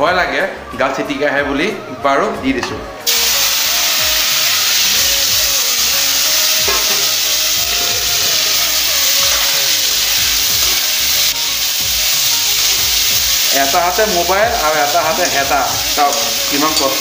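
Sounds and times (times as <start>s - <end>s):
vegetables sizzling in hot oil: 3.1s - 17.0s.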